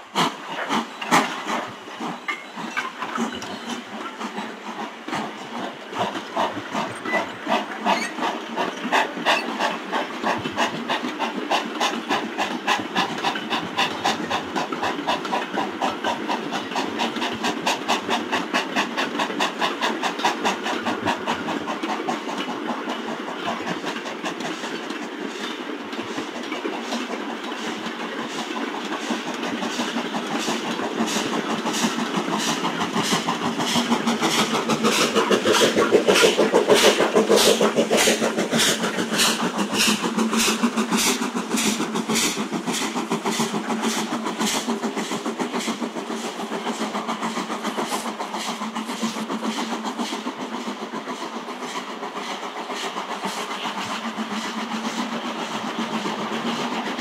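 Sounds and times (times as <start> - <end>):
hiss of steam: 0.0 - 57.0
steam locomotive exhaust beats: 0.0 - 57.0.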